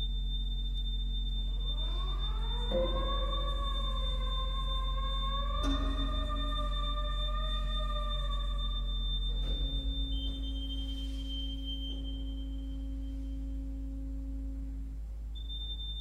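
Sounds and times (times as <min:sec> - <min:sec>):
high whistling organ tone: 0:00.0 - 0:13.9, 0:15.4 - 0:16.0
deep organ drone: 0:00.0 - 0:16.0.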